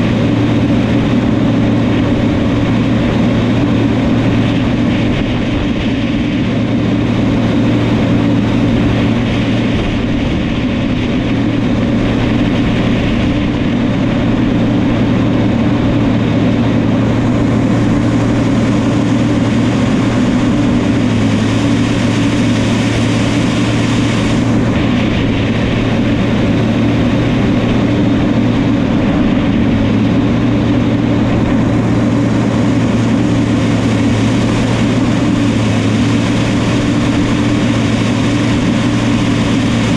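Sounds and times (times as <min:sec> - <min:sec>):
dozer diesel engine running: 0:00.0 - 0:39.9.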